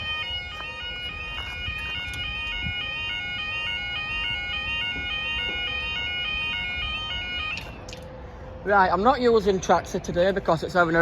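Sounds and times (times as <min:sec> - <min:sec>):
level crossing warning alarm: 0:00.0 - 0:11.0.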